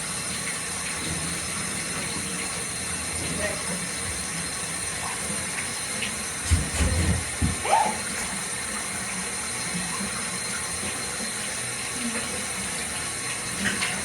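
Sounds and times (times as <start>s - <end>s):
water running into tub: 0.0s - 14.0s.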